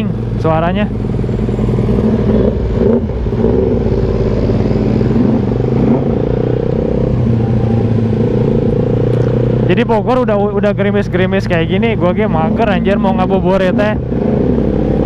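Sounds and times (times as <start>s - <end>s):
motorcycle engines humming: 0.0s - 15.0s.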